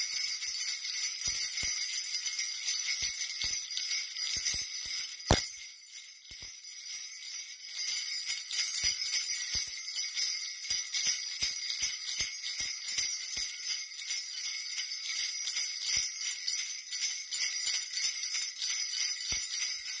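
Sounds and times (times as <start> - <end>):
sleigh bells jingling: 0.0 - 20.0.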